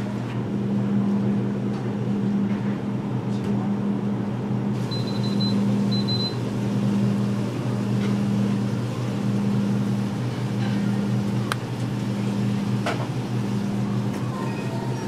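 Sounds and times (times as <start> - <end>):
kitchen equipment humming: 0.0 - 15.0.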